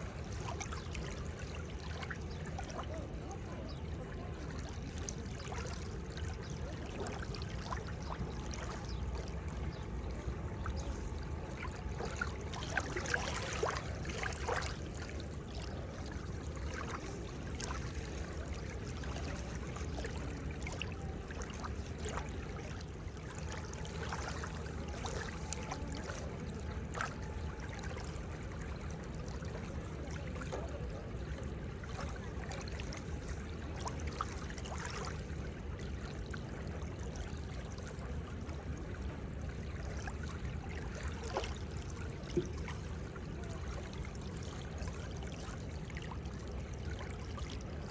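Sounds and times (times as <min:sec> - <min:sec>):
seawater lapping at shore: 0:00.0 - 0:47.9.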